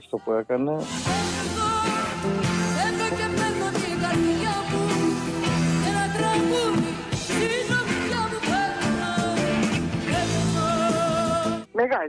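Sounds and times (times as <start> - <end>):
instrumental accompaniment: 0.8 - 11.7
woman singing: 1.0 - 11.7.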